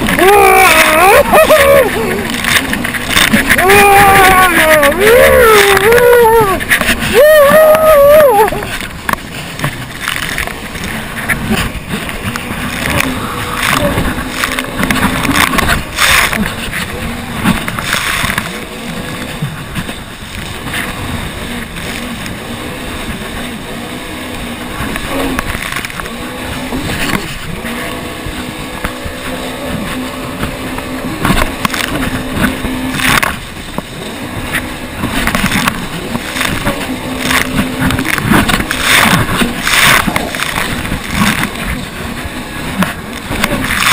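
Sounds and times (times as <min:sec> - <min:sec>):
jet ski engine drone: 0:00.0 - 0:43.9
wind and water rushing: 0:00.0 - 0:43.9.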